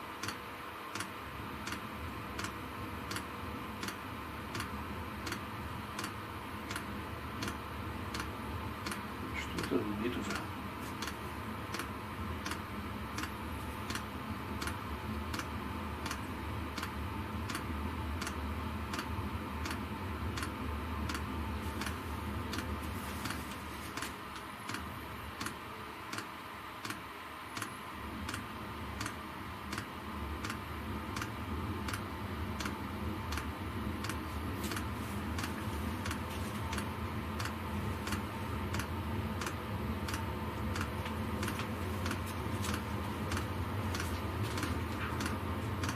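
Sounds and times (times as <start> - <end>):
blower fan humming: 0.0 - 45.9.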